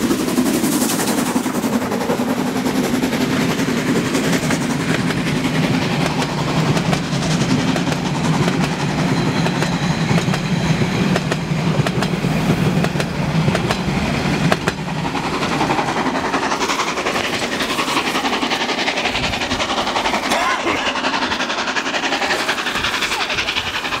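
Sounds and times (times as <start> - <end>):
train carriages rumbling past: 0.0 - 24.0
wheels clicking over rail joints: 3.5 - 10.5, 11.1 - 24.0.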